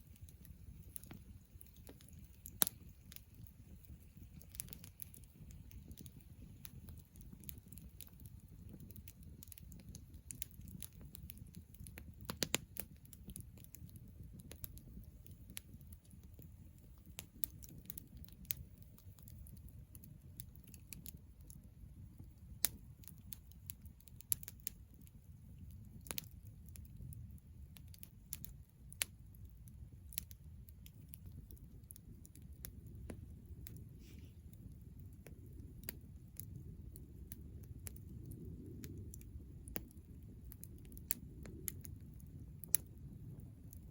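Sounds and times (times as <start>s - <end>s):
campfire crackling and popping: 0.0s - 43.9s
low steady rumble: 0.0s - 43.9s.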